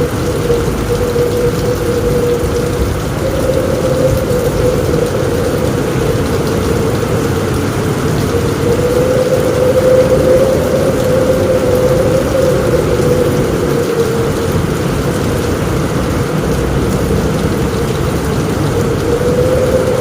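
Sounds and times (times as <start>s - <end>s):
heavy rain on a roof: 0.0s - 20.0s
low rumble: 0.0s - 20.0s.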